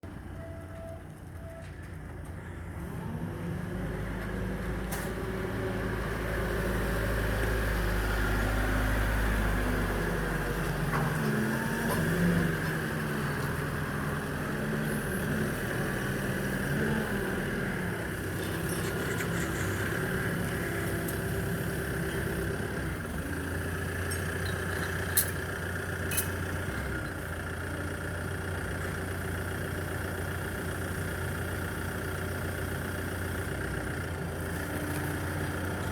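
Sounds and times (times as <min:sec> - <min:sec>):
work vehicle engine running: 0:00.0 - 0:35.9.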